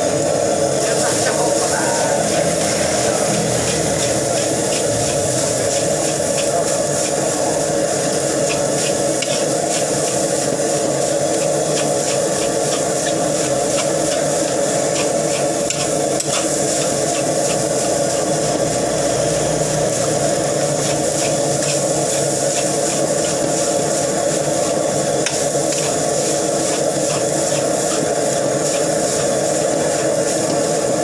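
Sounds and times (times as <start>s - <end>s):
rice sizzling in a wok: 0.0s - 31.0s
metal spatula scraping a wok: 2.3s - 30.5s.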